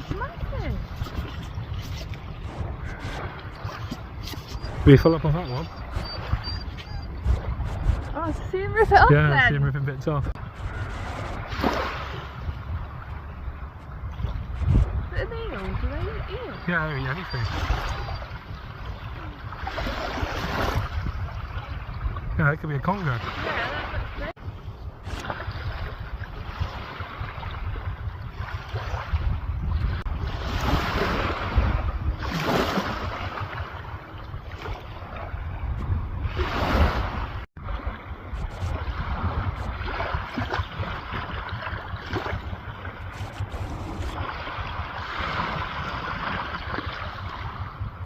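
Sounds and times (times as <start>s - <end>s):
sea water splashing: 0.0s - 24.4s, 25.0s - 48.0s
wind buffeting microphone: 0.0s - 48.0s.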